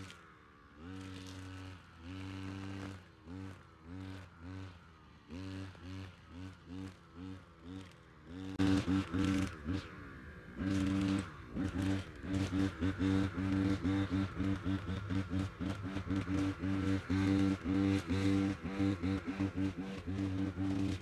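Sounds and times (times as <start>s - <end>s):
brush cutter engine revving: 0.0s - 21.0s.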